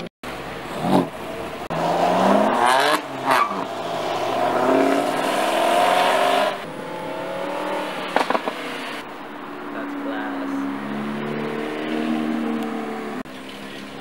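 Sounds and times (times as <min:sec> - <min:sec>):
sports car accelerating and revving: 0:00.6 - 0:13.3.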